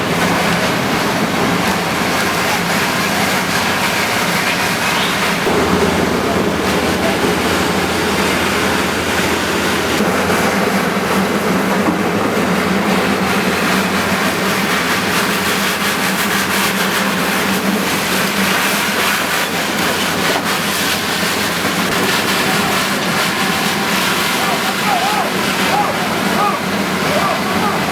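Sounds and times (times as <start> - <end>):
loud mechanical rumble: 0.0 - 27.9.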